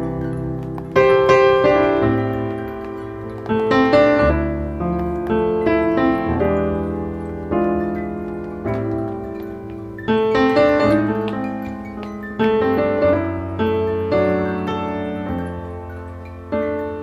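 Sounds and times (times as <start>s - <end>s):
piano notes and chords: 0.0s - 17.0s.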